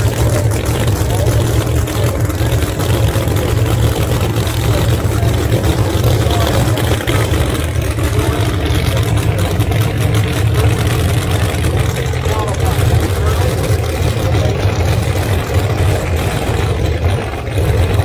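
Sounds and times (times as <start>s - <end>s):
race car engines idling: 0.0s - 18.0s.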